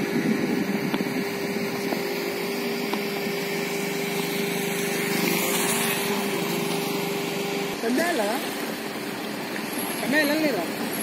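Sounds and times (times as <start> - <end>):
constant low hum: 0.0 - 11.0
river water rushing: 1.1 - 11.0.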